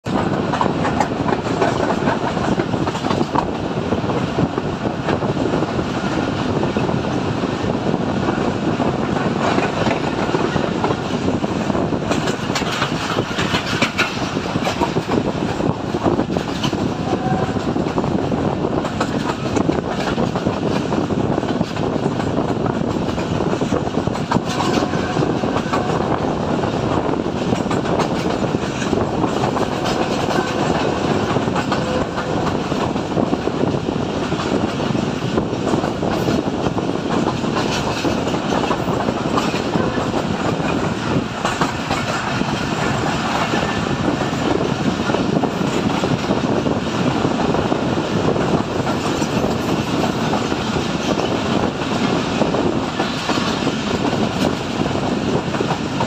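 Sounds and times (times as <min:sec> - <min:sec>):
rumble of wheels on rails: 0:00.0 - 0:56.0.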